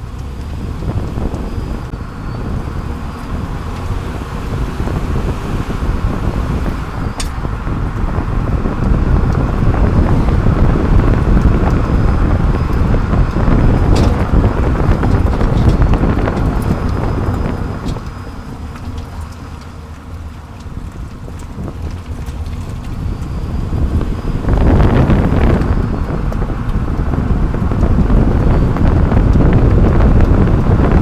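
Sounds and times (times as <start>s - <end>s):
tyres rumbling on road: 0.0s - 31.0s.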